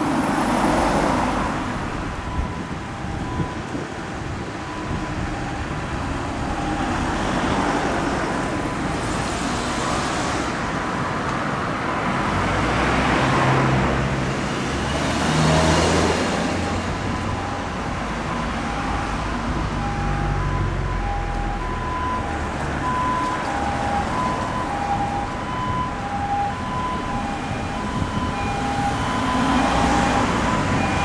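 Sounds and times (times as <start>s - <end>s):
steady road traffic: 0.0s - 31.0s
vehicles passing close by: 0.0s - 31.0s.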